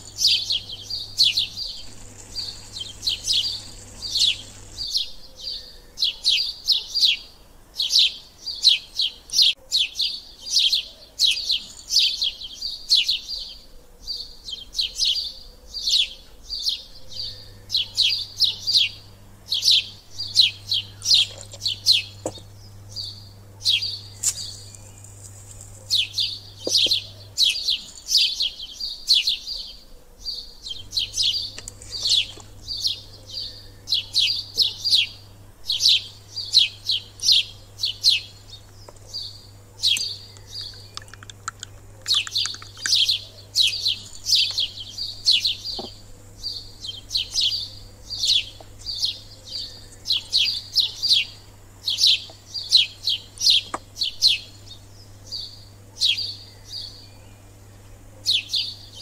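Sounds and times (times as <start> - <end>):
steady low hum: 0.0 - 6.3, 16.3 - 59.0
small bird chirping: 0.0 - 59.0.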